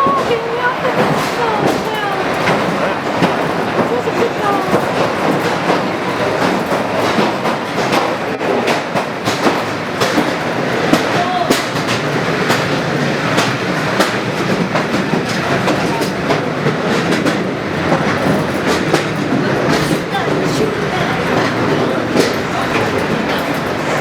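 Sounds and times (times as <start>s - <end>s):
railway carriage rattling on track: 0.0s - 24.0s
wheels clicking over rail joints: 0.0s - 24.0s.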